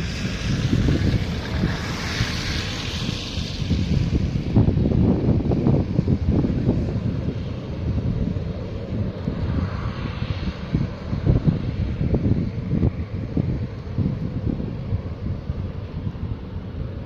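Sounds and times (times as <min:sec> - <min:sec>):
airliner engines during takeoff: 0:00.0 - 0:17.0
gusting wind on microphone: 0:00.0 - 0:17.0.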